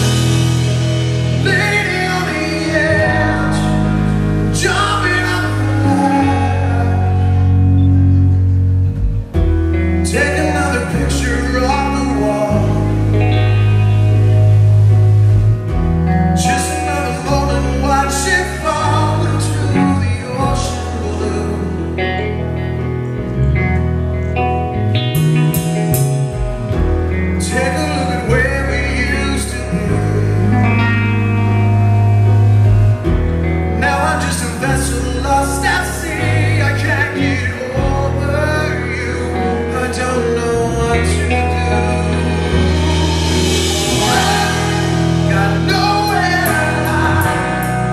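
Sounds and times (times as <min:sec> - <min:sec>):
man singing with rock band: 0:00.0 - 0:07.8, 0:09.7 - 0:14.6, 0:15.7 - 0:22.6, 0:25.5 - 0:32.0, 0:33.0 - 0:47.9
held bass notes: 0:00.0 - 0:47.9
live rock band: 0:00.0 - 0:47.9.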